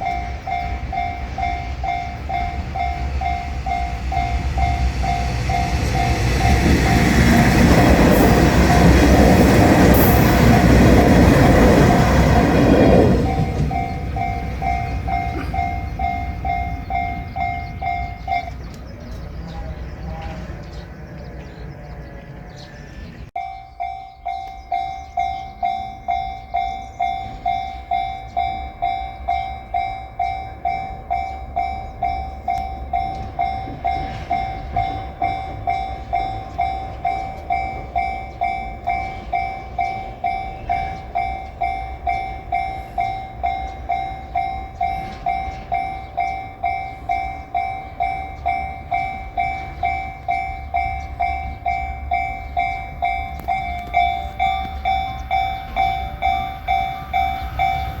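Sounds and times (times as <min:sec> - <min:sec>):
level-crossing warning bell: 0:00.0 - 0:58.0.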